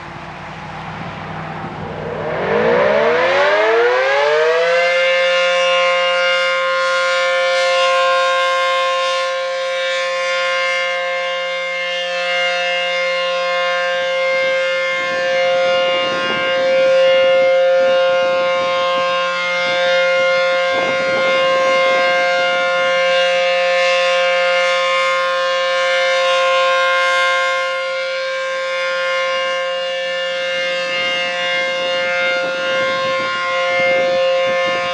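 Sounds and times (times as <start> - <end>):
storm siren winding up: 0.0 - 34.9.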